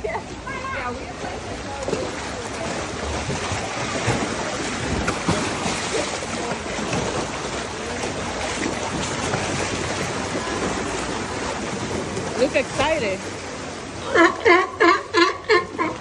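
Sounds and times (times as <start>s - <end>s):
pool water churning and splashing: 0.0s - 16.0s.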